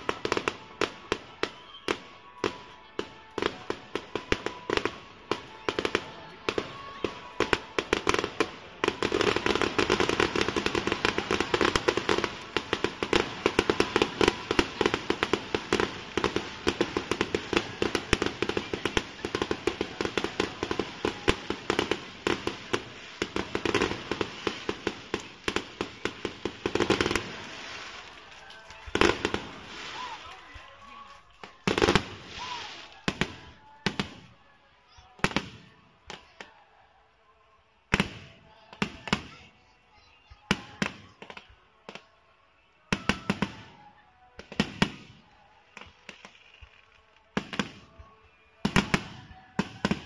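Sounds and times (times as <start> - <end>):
fireworks bursting rapidly: 0.0 - 34.3, 34.9 - 36.5, 42.9 - 50.0.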